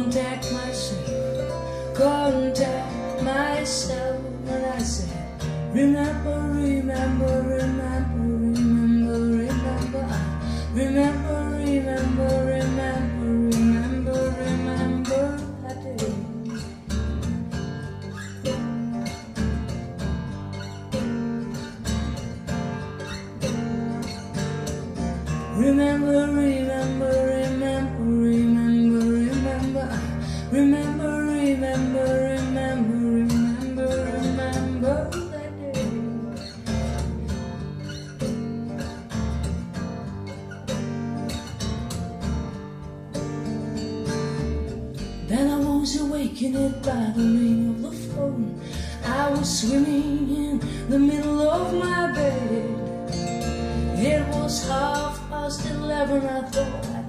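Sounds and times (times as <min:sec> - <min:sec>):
strummed acoustic guitar: 0:00.0 - 0:57.0.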